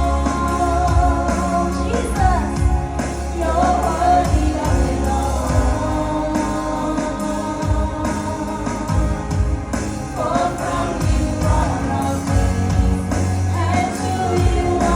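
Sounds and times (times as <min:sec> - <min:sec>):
band playing with bass and beat: 0:00.0 - 0:14.9
worship singing: 0:00.0 - 0:14.9.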